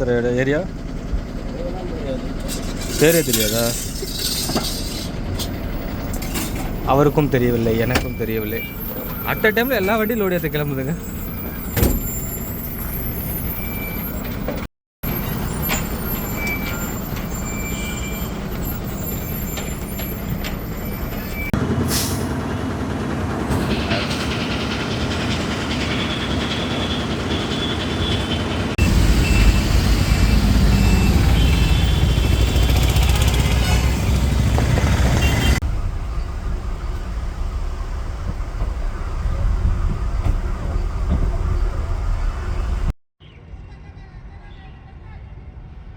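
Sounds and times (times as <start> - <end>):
heavy lorry engine running: 0.0 - 42.9.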